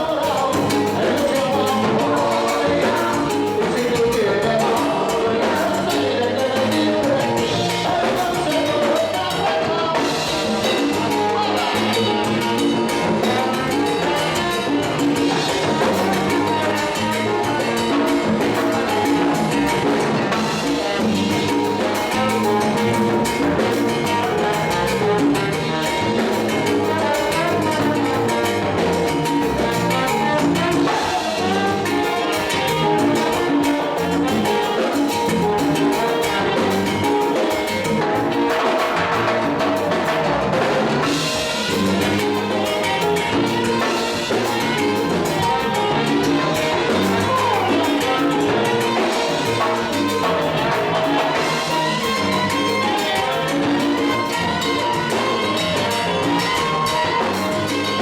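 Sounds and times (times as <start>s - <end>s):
drum kit and latin percussion: 0.0s - 58.0s
salsa band playing: 0.0s - 58.0s.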